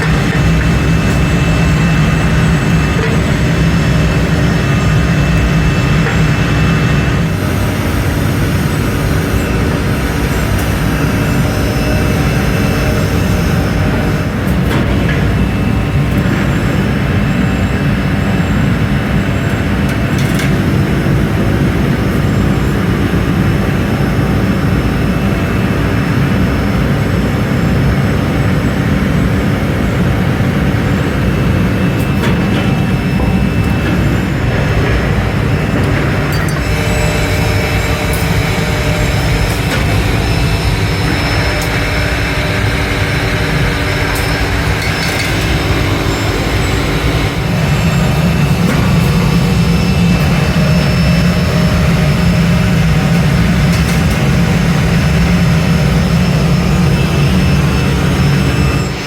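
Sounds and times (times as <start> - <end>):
factory machinery drone: 0.0 - 59.0.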